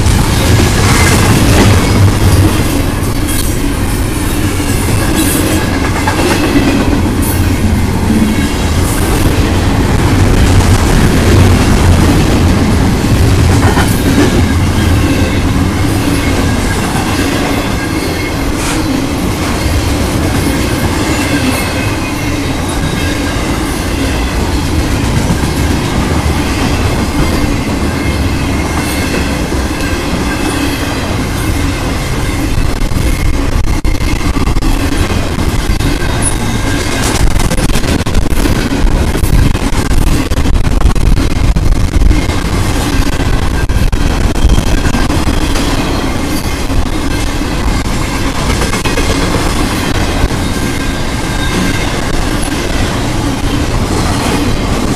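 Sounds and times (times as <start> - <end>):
freight train rumbling past: 0.0 - 54.9
high ringing of wheels on rails: 0.0 - 54.9
train wheel clatter: 0.0 - 54.9.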